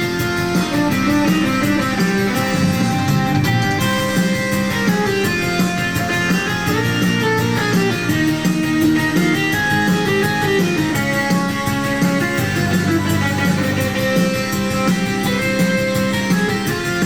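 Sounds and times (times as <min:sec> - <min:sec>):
bass: 0:00.0 - 0:17.0
steady drum beat: 0:00.0 - 0:17.0
strummed guitar: 0:00.0 - 0:17.0.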